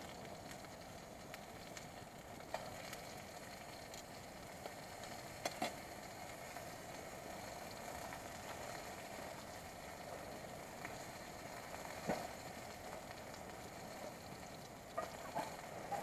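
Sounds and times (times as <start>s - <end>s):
campfire hissing: 0.0s - 16.0s
fire crackles: 0.0s - 16.0s.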